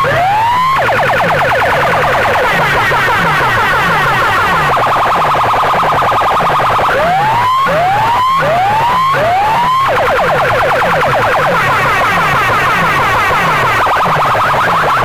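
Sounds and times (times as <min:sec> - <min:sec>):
electronic siren through loudspeaker: 0:00.0 - 0:15.0.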